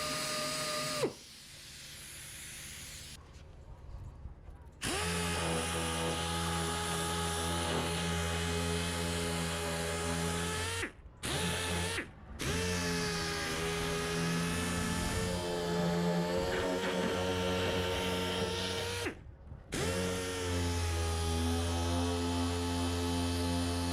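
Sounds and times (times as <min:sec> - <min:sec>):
power tool motor running: 0:00.0 - 0:03.2, 0:04.8 - 0:23.9.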